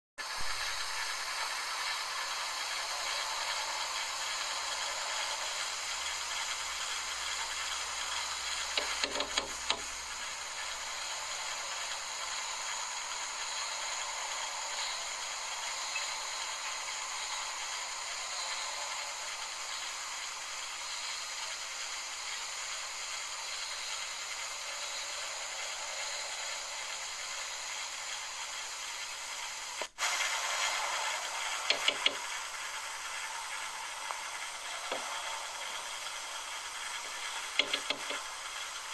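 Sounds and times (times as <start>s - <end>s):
background hiss: 0.2s - 38.9s.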